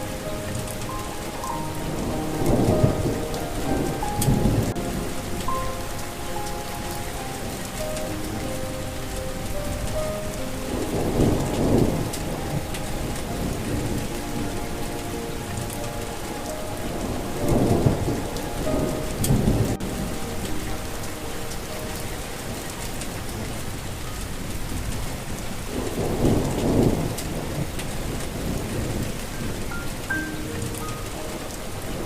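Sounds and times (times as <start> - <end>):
heavy rain falling: 0.0 - 32.0
soft faint melody: 0.0 - 32.0
thunder rumbling: 0.0 - 32.0.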